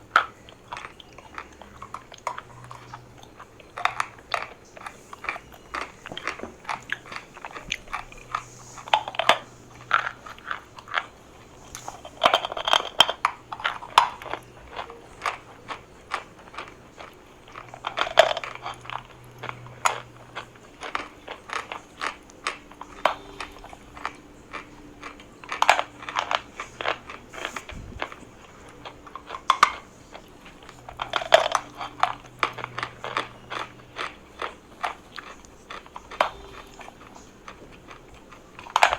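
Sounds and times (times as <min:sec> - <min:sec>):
chalk being chewed crunching: 0:00.0 - 0:38.9.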